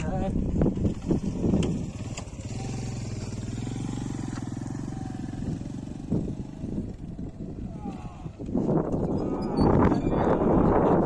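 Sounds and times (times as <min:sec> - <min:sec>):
motorcycle engine running: 0:00.2 - 0:09.1.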